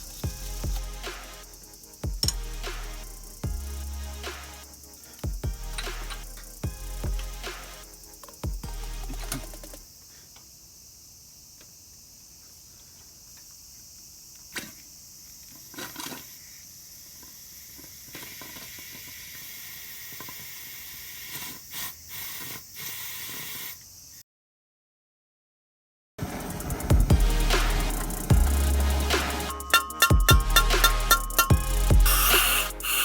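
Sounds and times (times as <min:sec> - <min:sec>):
high hiss: 0:00.0 - 0:24.2, 0:26.2 - 0:33.0.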